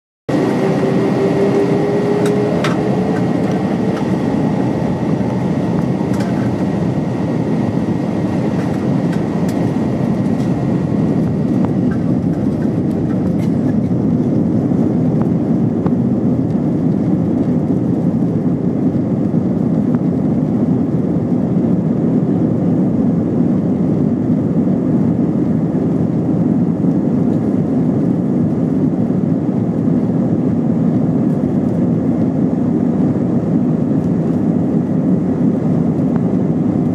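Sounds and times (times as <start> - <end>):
jet engines roaring: 0.3 - 36.9
rising engine whine: 0.3 - 36.9.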